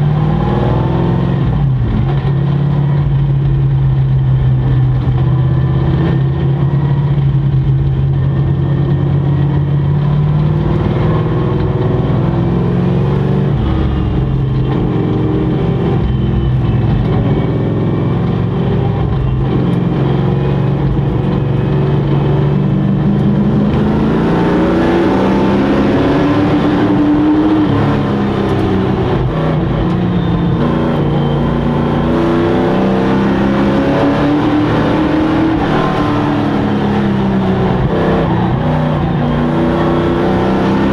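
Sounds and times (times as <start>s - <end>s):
race truck engines revving: 0.0s - 40.9s.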